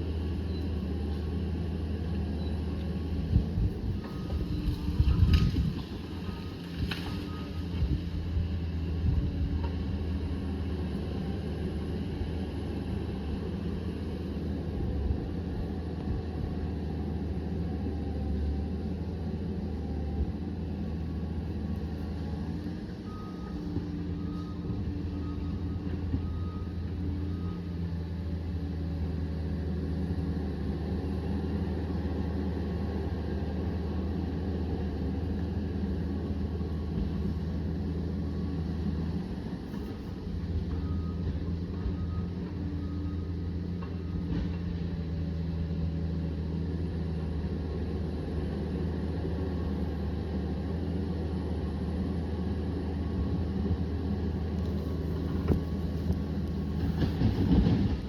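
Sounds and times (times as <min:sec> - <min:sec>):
dozer diesel engine running: 0:00.0 - 0:58.0.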